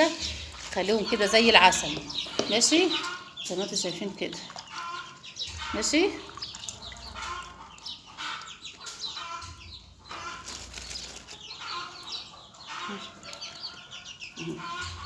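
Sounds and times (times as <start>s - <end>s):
chicks and ducklings peeping: 0.0s - 15.0s.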